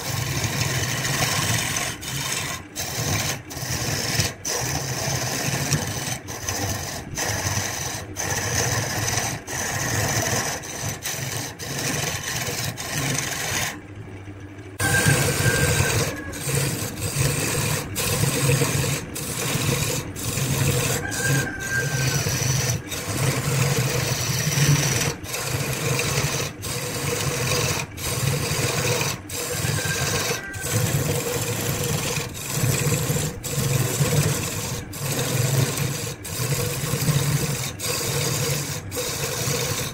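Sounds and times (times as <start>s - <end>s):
wood lathe humming: 0.0s - 14.2s, 14.8s - 39.9s
tool scraping spinning wood: 0.0s - 39.9s.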